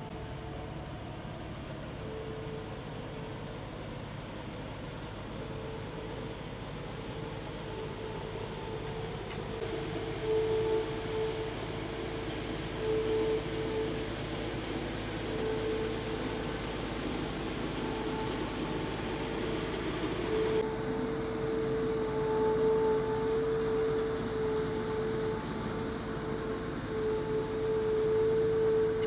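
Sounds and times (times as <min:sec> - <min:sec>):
high mechanical whine: 0:00.0 - 0:29.0
road sweeper brushing: 0:00.0 - 0:29.0.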